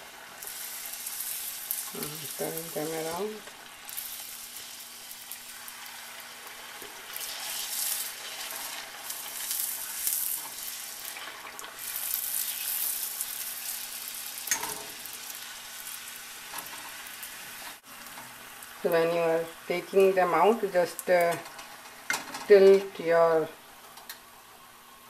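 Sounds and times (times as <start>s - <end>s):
dough sizzling in hot oil: 0.0s - 25.0s.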